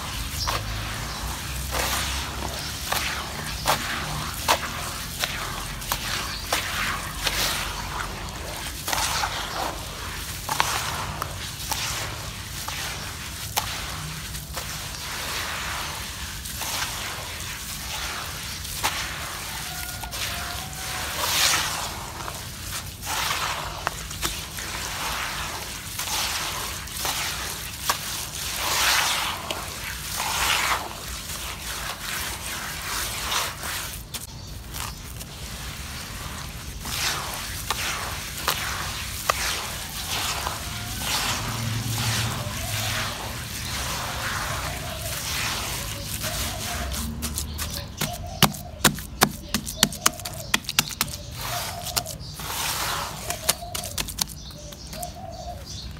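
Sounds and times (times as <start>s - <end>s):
hands squelching wet cement paste: 0.0s - 55.9s.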